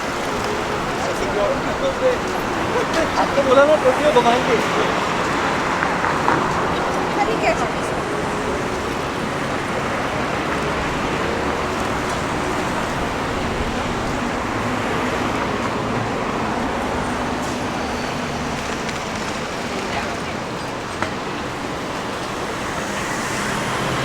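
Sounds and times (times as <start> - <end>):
road traffic rumble and hiss: 0.0 - 24.0.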